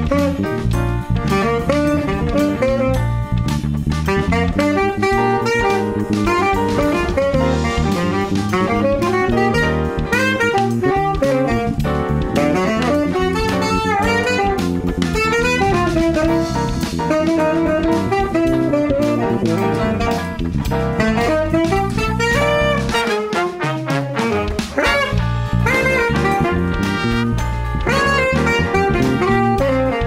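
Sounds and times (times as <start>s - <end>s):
jazz-funk big band playing: 0.0s - 30.0s
saxophone: 0.0s - 30.0s.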